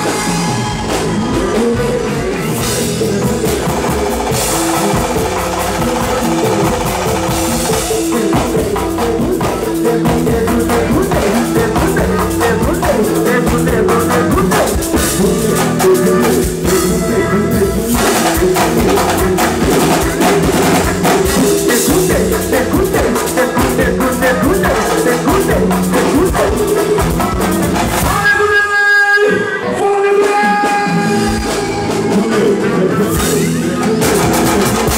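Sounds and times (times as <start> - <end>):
drums playing driving groove: 0.0 - 28.8, 30.2 - 34.9
bass: 0.0 - 34.9
keyboard chords: 0.0 - 34.9.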